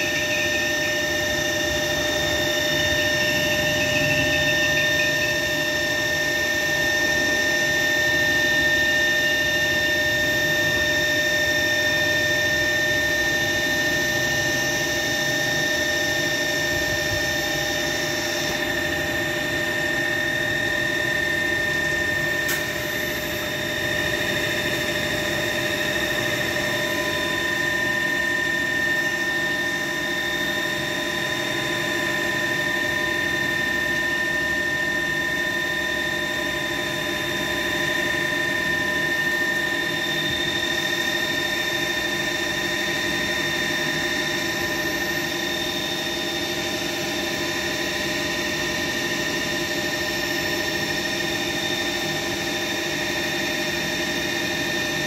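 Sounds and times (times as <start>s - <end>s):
milling machine hum and whine: 0.0s - 55.0s.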